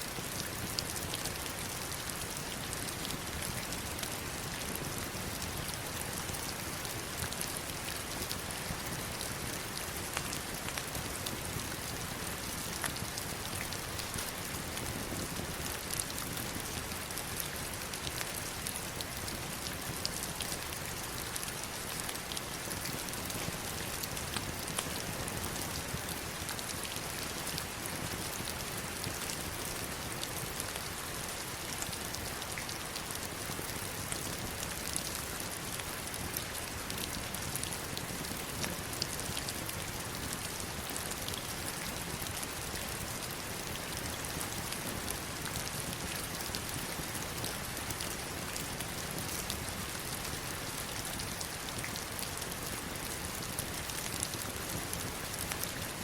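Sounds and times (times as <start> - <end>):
heavy rain on stones: 0.1 - 56.0.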